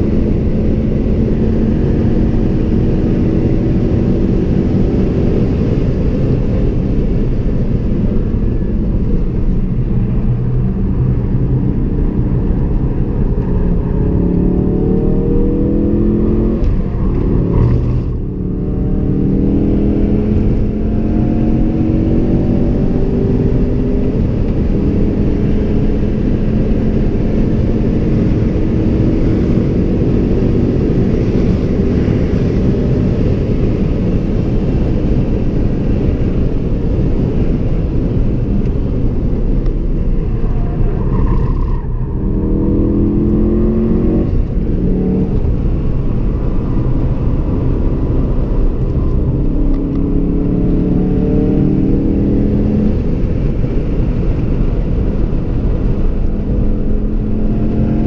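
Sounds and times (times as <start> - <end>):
car engine accelerating hard: 0.0 - 58.0
road and wind noise: 0.0 - 58.0.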